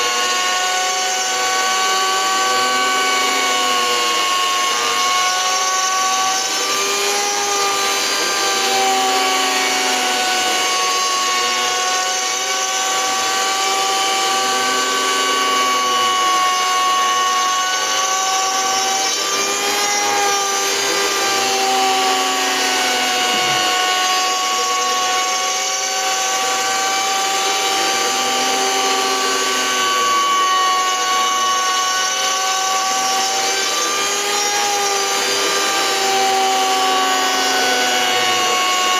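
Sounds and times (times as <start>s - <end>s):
cnc router whining: 0.0s - 38.9s.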